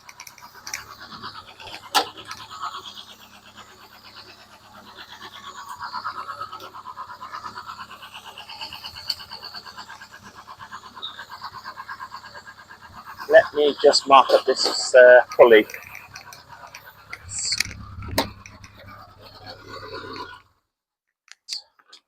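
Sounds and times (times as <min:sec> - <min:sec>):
car engine idling: 0:00.0 - 0:20.4.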